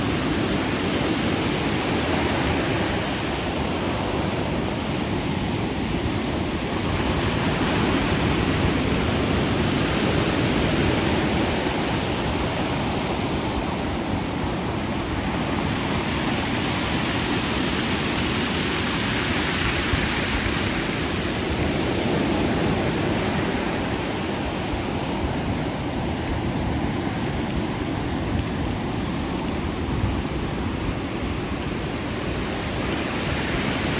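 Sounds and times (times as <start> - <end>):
ocean waves breaking: 0.0 - 33.9.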